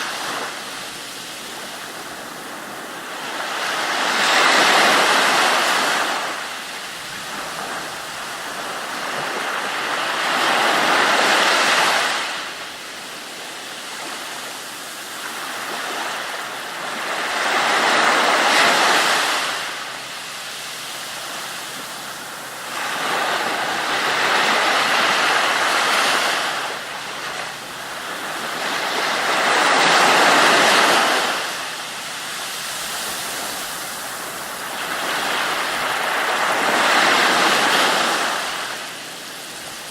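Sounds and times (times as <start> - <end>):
ocean waves on shore: 0.0 - 39.9.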